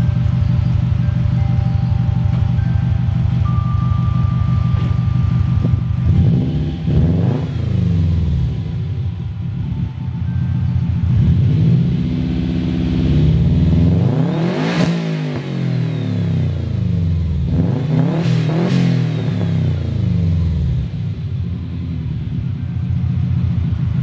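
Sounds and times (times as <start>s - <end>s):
car engine revving through exhaust: 0.0s - 24.0s.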